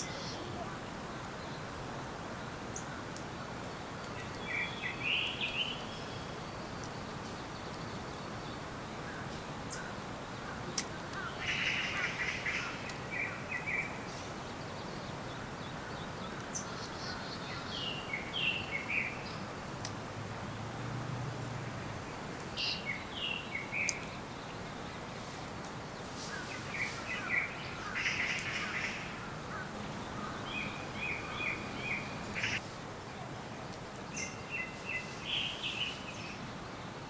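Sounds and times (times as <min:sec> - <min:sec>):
forest ambience hiss: 0:00.0 - 0:37.0
songbirds chirping: 0:00.0 - 0:37.0.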